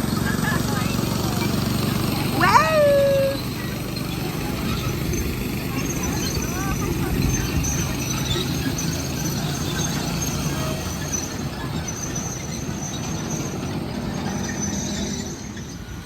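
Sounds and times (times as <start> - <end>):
train rumbling along track: 0.0 - 16.0
high wheel squeal: 0.4 - 16.0.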